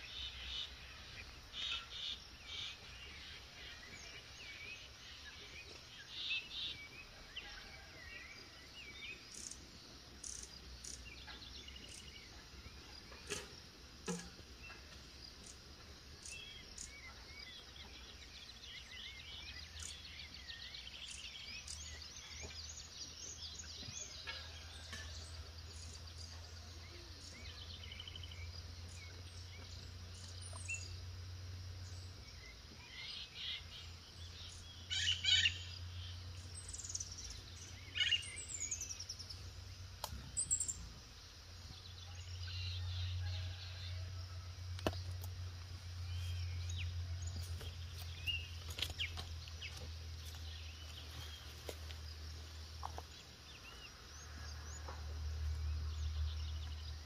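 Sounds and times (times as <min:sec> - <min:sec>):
birds chirping and trilling: 0:00.0 - 0:44.1, 0:44.7 - 0:57.0.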